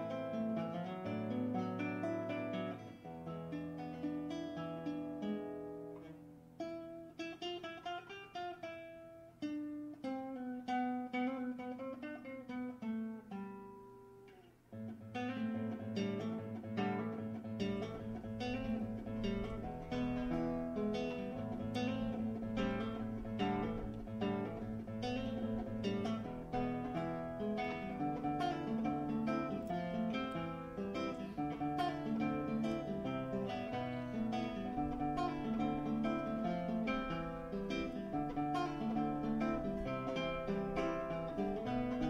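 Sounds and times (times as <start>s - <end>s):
acoustic guitar music: 0.0s - 42.0s.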